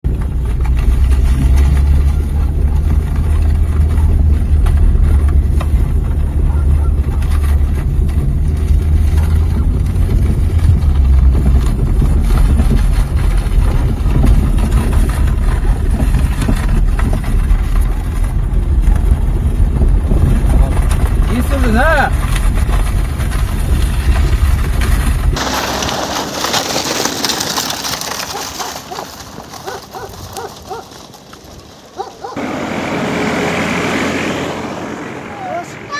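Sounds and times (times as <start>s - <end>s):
tractor engine rumbling: 0.0s - 35.9s.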